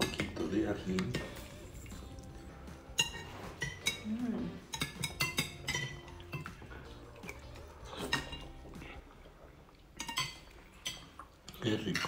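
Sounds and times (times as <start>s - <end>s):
spoons clinking on bowls: 0.0s - 8.6s, 10.0s - 12.0s.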